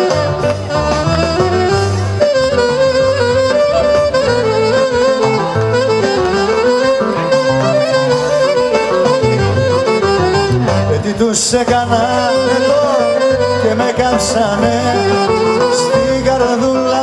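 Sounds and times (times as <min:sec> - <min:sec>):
clarinet melody: 0:00.0 - 0:17.0
drum and bass beat: 0:00.0 - 0:17.0.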